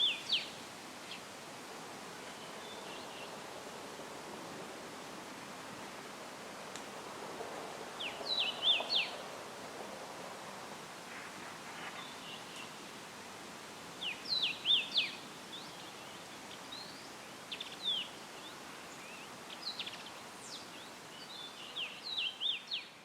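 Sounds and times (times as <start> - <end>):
leaves rustling in breeze: 0.0 - 23.0.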